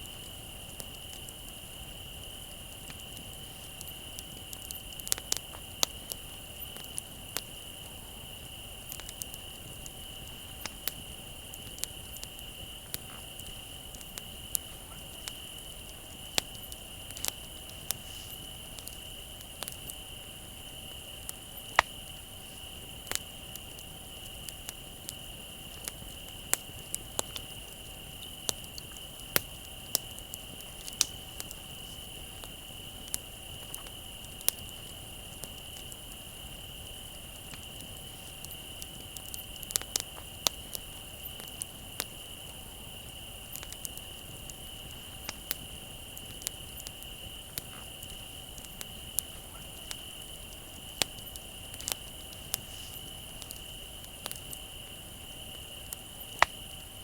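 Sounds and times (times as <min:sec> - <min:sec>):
crickets chirping: 0:00.0 - 0:57.0
wood fire crackling: 0:00.0 - 0:57.0.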